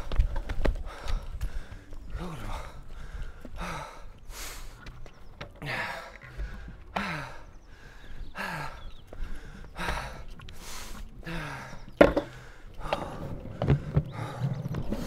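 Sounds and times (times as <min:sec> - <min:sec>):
heavy breathing: 0:00.0 - 0:15.0.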